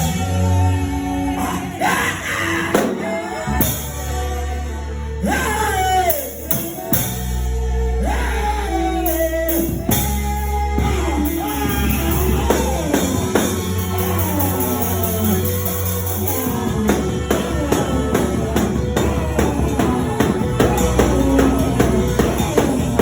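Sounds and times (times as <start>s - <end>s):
person singing gospel: 0.0s - 23.0s
sustained deep bass notes: 0.0s - 23.0s.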